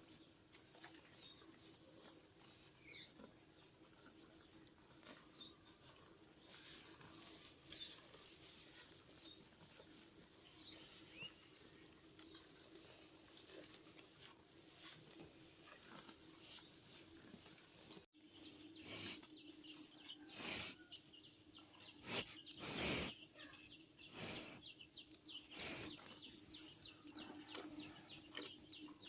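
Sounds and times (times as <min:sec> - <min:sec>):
cattle tearing and chewing grass: 0:00.0 - 0:20.6, 0:25.0 - 0:29.0.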